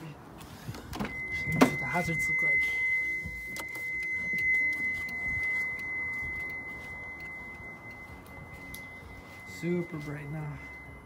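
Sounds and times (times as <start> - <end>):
high-pitched electronic tone: 1.0 - 11.0.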